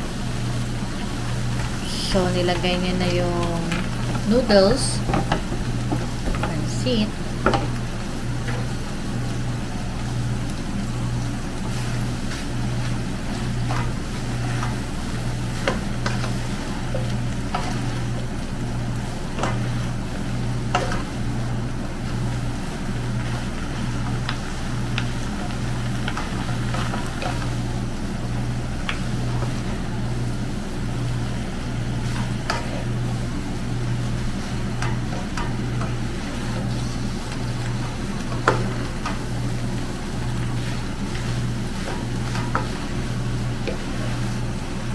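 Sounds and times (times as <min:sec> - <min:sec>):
low pulsing hum: 0:00.0 - 0:44.9
stir-fry sizzling: 0:00.0 - 0:44.9.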